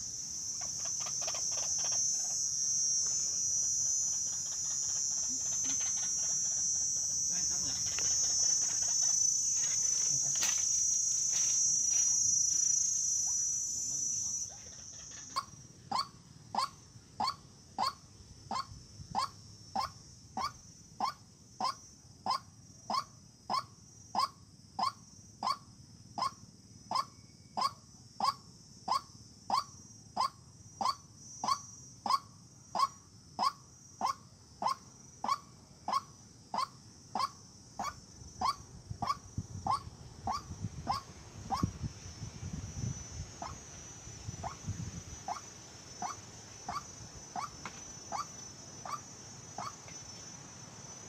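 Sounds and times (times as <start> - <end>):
high insect buzz: 0.0 - 51.0.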